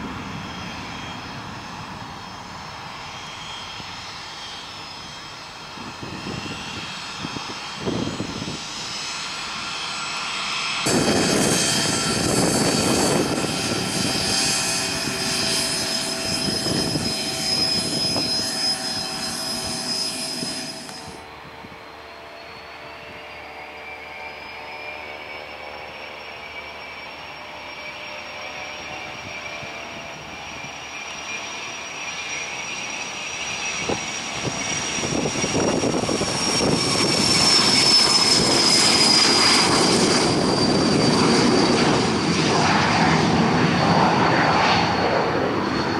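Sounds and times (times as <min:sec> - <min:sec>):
airliner engines on takeoff: 0:00.0 - 0:45.9
jet turbofans whining loudly: 0:00.0 - 0:45.9
turbofan whine rising in pitch: 0:00.0 - 0:45.9.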